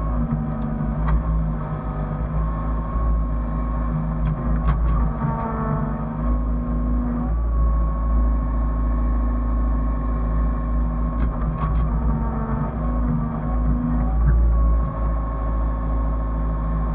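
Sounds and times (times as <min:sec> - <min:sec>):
excavator engine with hydraulic whine: 0:00.0 - 0:16.9.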